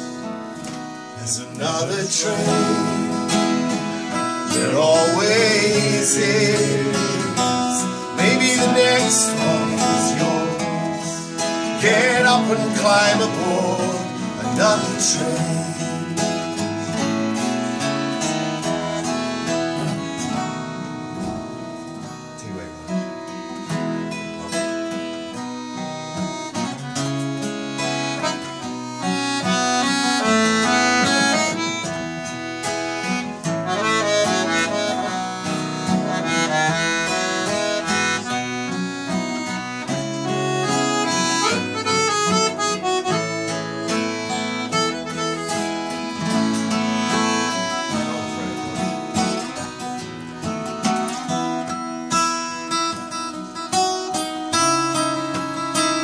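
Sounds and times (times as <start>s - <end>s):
accordion melody: 0.0s - 56.0s
acoustic guitar: 0.0s - 56.0s.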